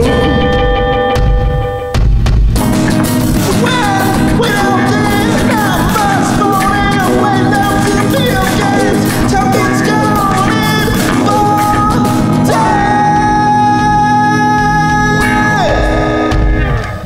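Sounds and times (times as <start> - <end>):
experimental rock music: 0.0 - 17.0.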